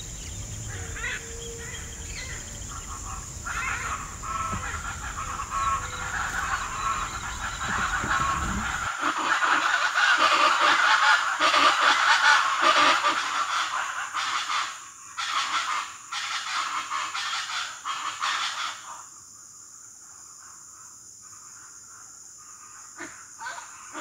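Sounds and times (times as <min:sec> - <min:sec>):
flock of birds calling harshly: 0:00.0 - 0:19.0, 0:22.6 - 0:24.0.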